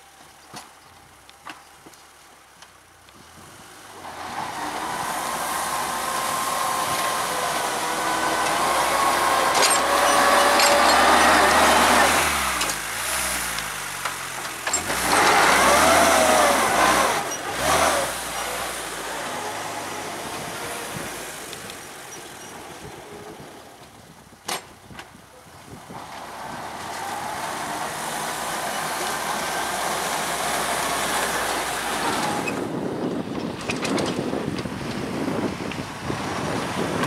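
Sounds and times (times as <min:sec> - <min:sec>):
small tractor engine running: 0:00.0 - 0:24.1, 0:25.4 - 0:37.0.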